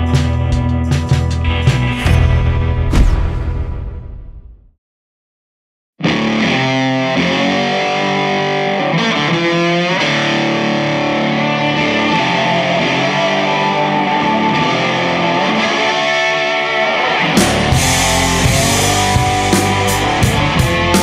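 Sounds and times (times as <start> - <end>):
distorted electric guitar rock music: 0.0 - 2.8, 6.0 - 21.0.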